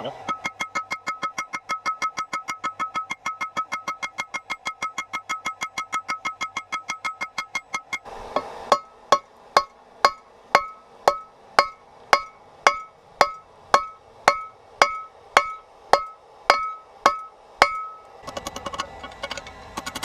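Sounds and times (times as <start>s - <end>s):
hammer blows on ringing anvil: 0.0s - 18.1s.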